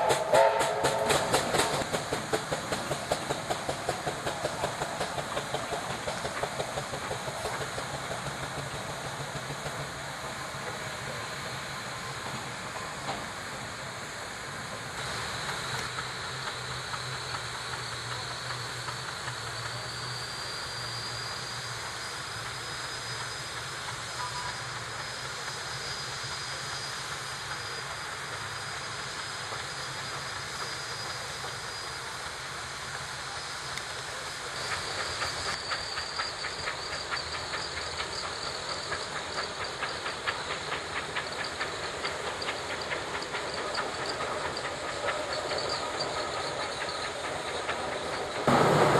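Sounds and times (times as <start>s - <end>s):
steam engine hissing: 0.0s - 48.9s.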